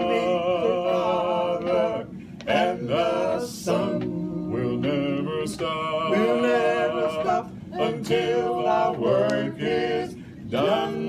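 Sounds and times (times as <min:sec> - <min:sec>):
men singing in harmony: 0:00.0 - 0:11.0.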